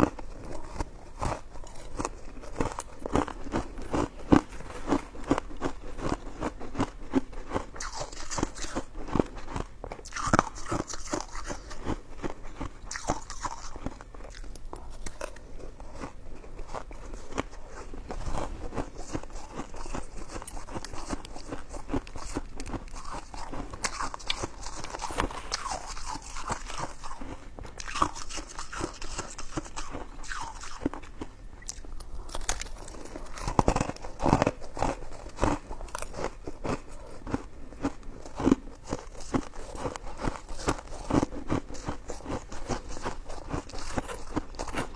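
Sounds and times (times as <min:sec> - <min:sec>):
close chewing and biting: 0:00.0 - 0:44.9.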